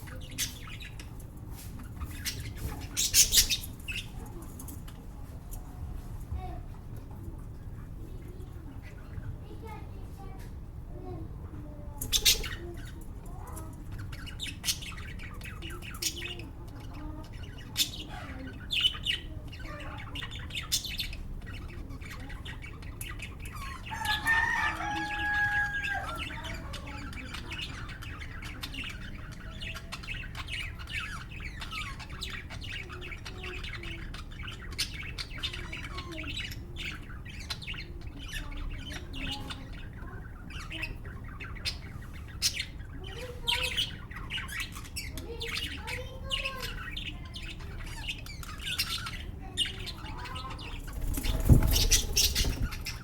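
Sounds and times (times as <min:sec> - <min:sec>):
lovebirds chirping and squawking: 0:00.0 - 0:53.0.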